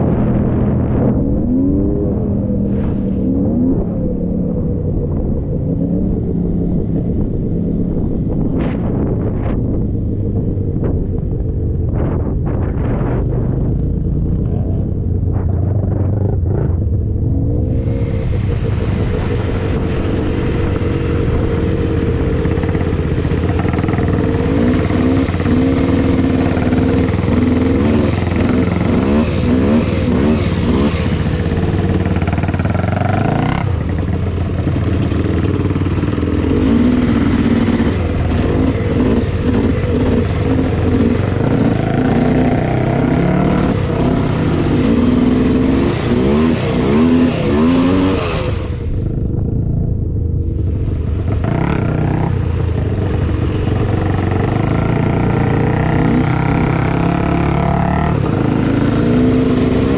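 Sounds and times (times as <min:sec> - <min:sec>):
two-stroke engine revving: 0:08.6 - 0:49.7, 0:50.4 - 0:59.9.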